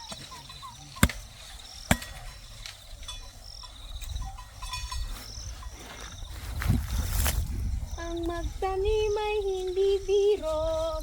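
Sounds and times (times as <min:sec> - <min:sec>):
insect chirping trill: 0:00.0 - 0:11.0.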